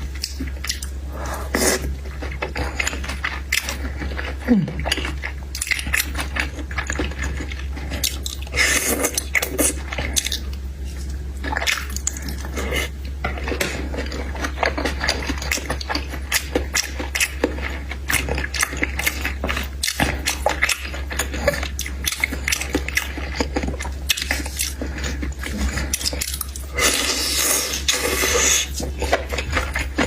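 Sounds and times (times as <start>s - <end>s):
person chewing seafood: 0.0s - 30.0s
steady low hum: 0.0s - 30.0s.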